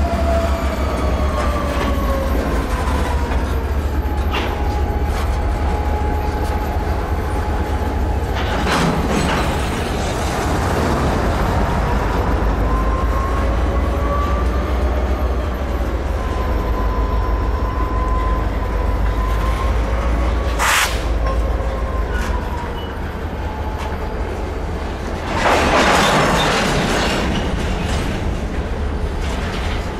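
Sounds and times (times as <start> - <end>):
freight train rumbling past: 0.0 - 29.9.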